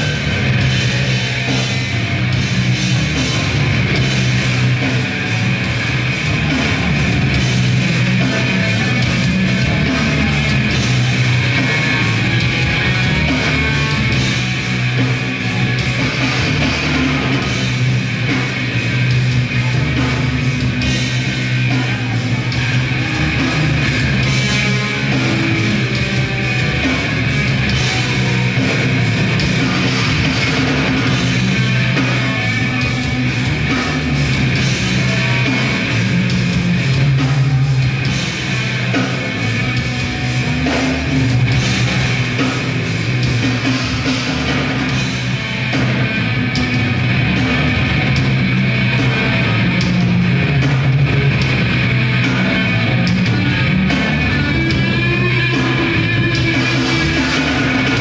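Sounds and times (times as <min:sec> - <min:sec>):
distorted guitars and bass: 0:00.0 - 0:58.0
fast hammering drums: 0:00.0 - 0:58.0.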